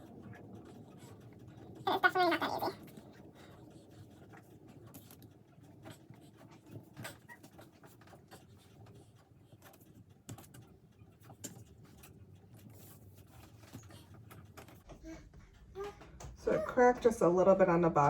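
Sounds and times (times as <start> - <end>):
quiet room hum: 0.0 - 18.0.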